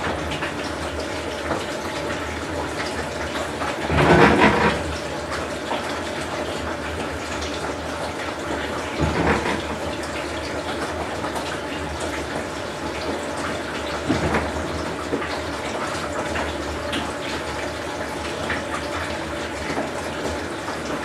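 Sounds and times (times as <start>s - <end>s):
washing machine hum: 0.0s - 21.0s
water sloshing in washing machine: 0.0s - 21.0s.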